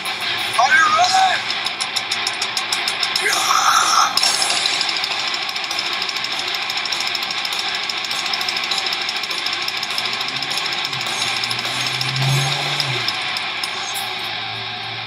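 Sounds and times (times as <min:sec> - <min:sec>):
fast drumming: 0:00.0 - 0:14.3
distorted electric guitars: 0:00.0 - 0:15.0.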